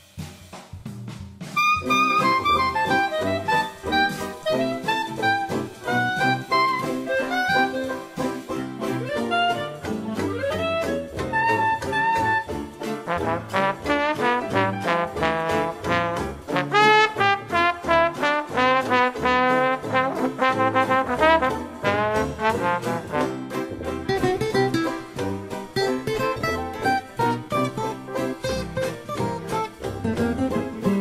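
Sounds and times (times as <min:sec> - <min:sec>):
upbeat brass jazz music: 0:00.2 - 0:31.0.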